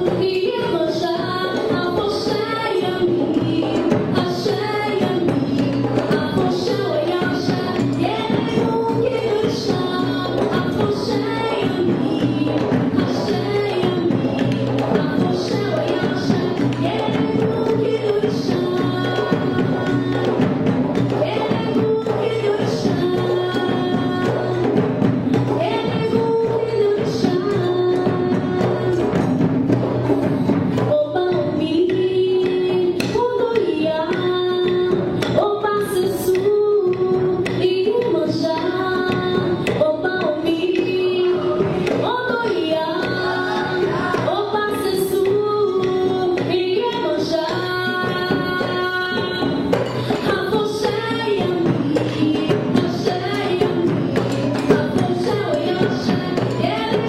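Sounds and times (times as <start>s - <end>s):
light percussion: 0.0s - 57.0s.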